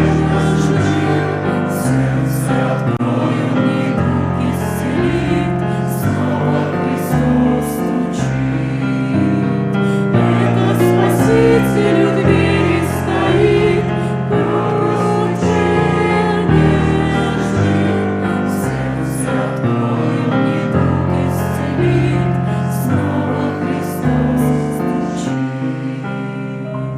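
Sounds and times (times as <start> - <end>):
sustained keyboard chords: 0.0 - 26.9
voices singing a hymn: 0.0 - 26.9.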